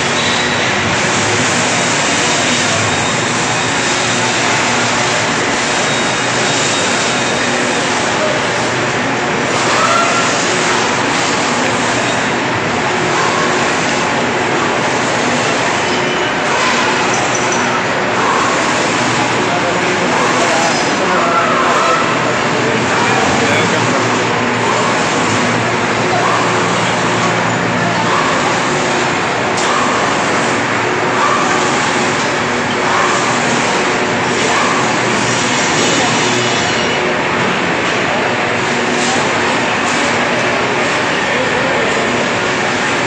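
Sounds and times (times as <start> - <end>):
factory machinery noise: 0.0 - 43.0
distant voices: 0.7 - 43.0.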